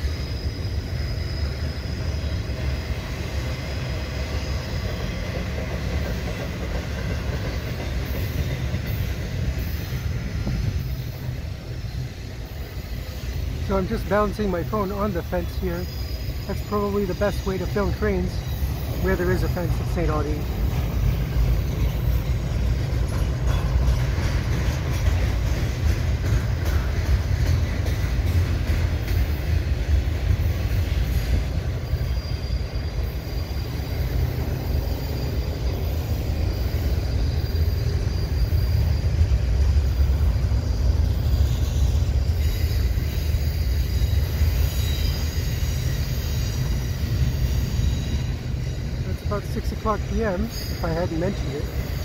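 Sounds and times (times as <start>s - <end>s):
high wheel squeal: 0.0s - 6.3s, 7.4s - 27.0s, 30.3s - 52.0s
train wheels rumbling on rail: 0.0s - 52.0s.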